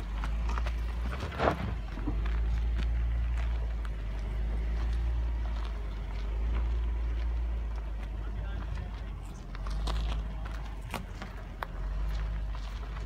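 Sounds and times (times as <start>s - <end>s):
engine running at low revs: 0.0s - 13.0s
tyres crunching on gravel: 0.0s - 13.0s.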